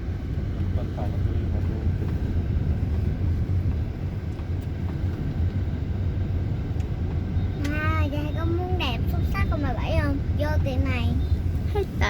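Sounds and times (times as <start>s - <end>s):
low engine hum: 0.0s - 12.0s
road and wind noise: 0.0s - 12.0s.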